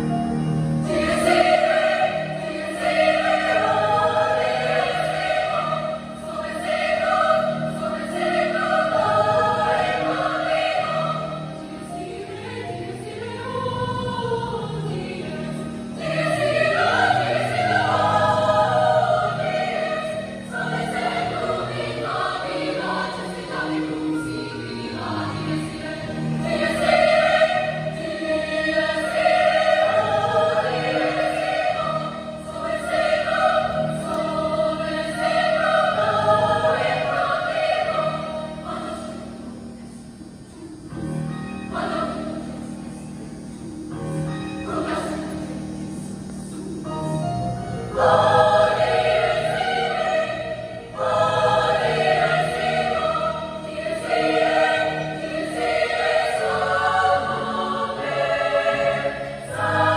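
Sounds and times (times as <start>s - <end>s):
women's choir singing: 0.0s - 59.9s.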